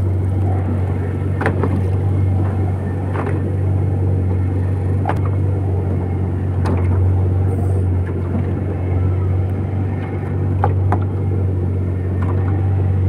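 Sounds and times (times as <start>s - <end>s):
outboard engine droning: 0.0s - 13.0s.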